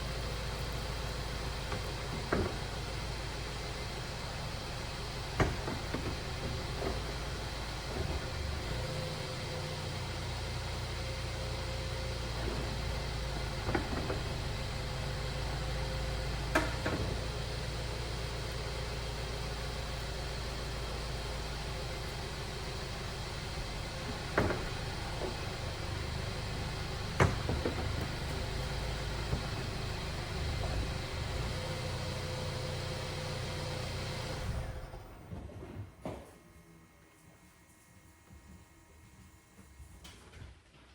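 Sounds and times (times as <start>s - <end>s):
car engine idling: 0.0s - 35.2s.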